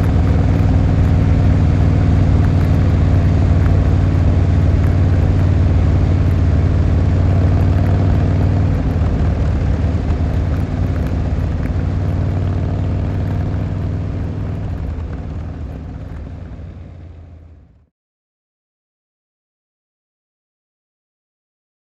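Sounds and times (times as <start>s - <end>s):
motorcycle engine running: 0.0s - 17.9s
road noise: 0.0s - 17.9s.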